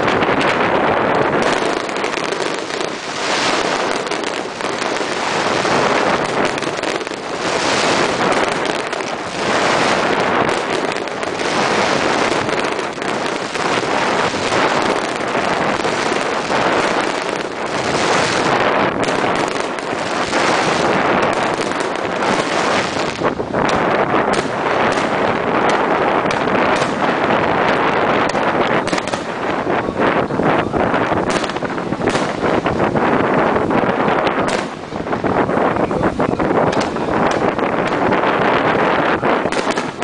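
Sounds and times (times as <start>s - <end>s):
fireworks bursting and crackling: 0.0s - 40.0s.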